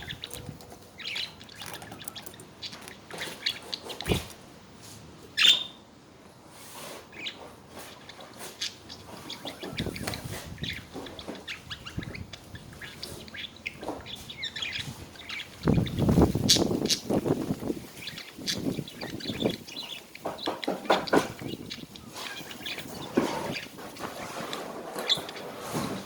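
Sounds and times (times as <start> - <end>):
budgerigars chirping: 0.0 - 4.2, 5.4 - 5.8, 7.1 - 25.5.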